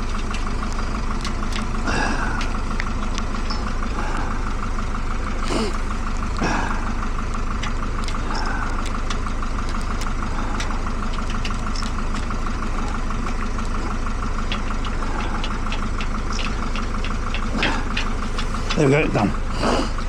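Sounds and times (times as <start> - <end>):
pulsing machine drone: 0.0 - 20.0.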